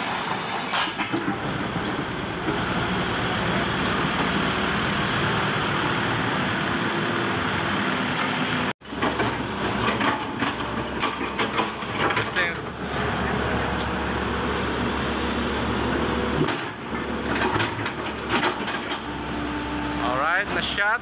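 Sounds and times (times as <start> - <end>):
excavator diesel engine running: 0.1 - 21.0.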